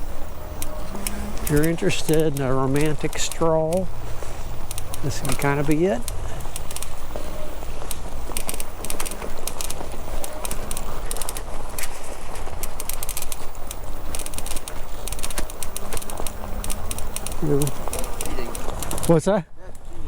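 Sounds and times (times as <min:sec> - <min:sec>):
bicycle tyres rumbling: 0:00.0 - 0:20.0
crackling clicks: 0:00.0 - 0:20.0.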